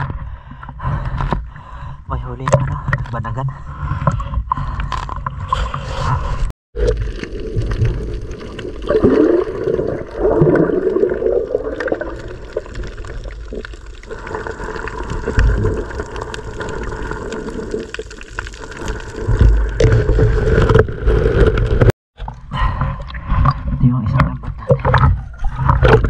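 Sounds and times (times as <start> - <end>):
water sloshing and gurgling underwater: 0.0 - 26.0.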